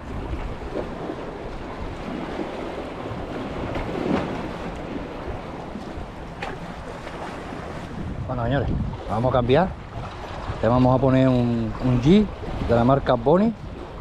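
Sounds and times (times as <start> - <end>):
waves washing against rocks: 0.0 - 14.0
wind buffeting microphone: 0.0 - 14.0.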